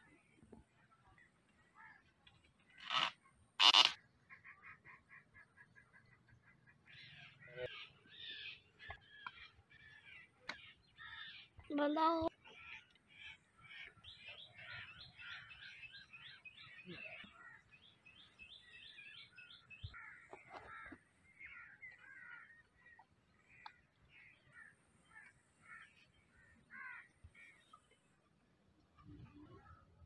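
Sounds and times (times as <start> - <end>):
birds chirping: 1.0 - 30.0.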